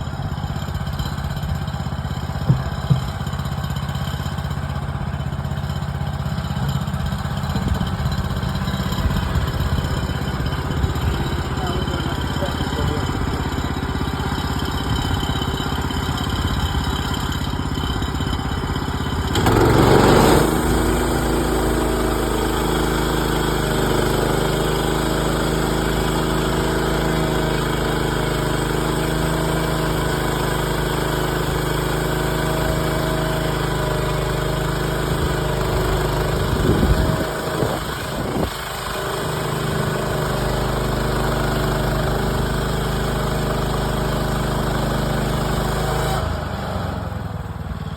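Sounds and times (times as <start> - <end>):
sawmill gas engine running: 0.0 - 47.9.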